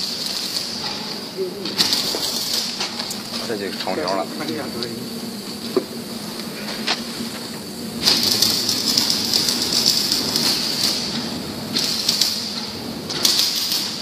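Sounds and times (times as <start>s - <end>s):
hissing air rush: 0.0s - 14.0s
machinery humming: 0.0s - 14.0s.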